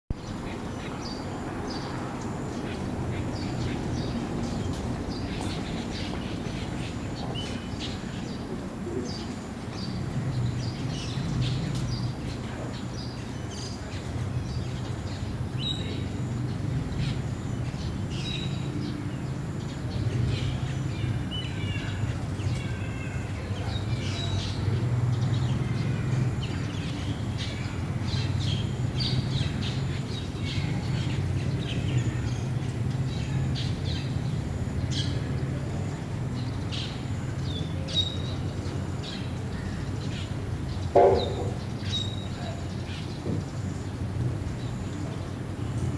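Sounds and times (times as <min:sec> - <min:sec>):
birds chirping: 0:00.1 - 0:45.9.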